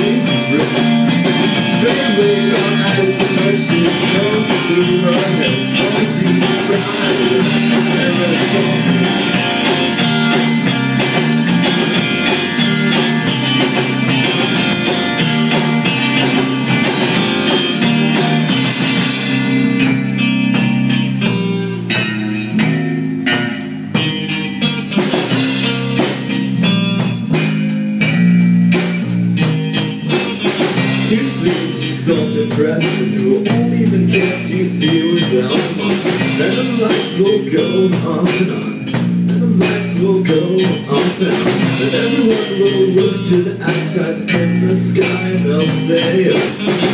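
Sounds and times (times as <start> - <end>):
drum kit: 0.0 - 46.9
electric guitars: 0.0 - 46.9.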